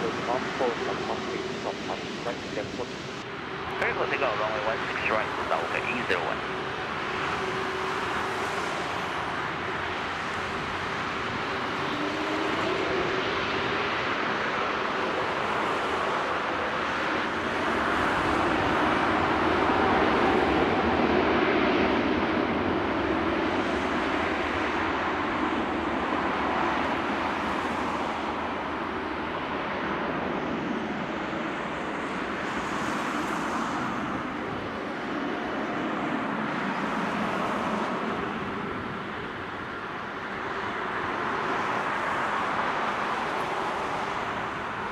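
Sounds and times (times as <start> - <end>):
jet engines running: 0.0 - 44.9.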